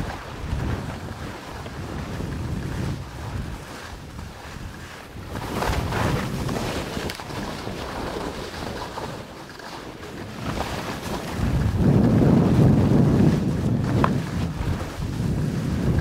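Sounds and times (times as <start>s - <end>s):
skis scraping on crusty snow: 0.0s - 16.0s
wind buffeting microphone: 0.0s - 16.0s.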